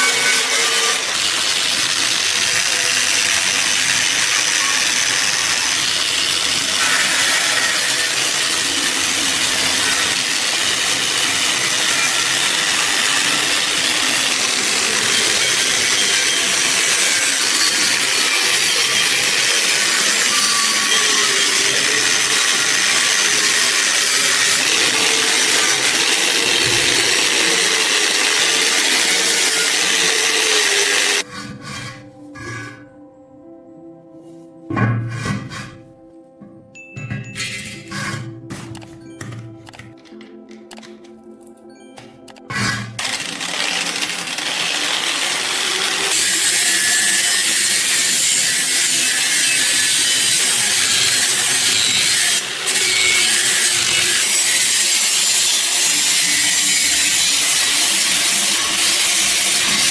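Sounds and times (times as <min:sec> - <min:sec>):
power tool grinding metal: 0:00.0 - 0:32.1, 0:42.5 - 0:59.9.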